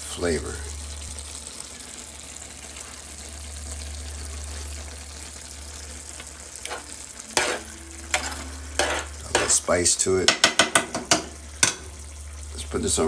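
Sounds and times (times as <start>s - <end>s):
low steady hum: 0.0s - 13.0s
stew simmering and bubbling: 0.0s - 13.0s.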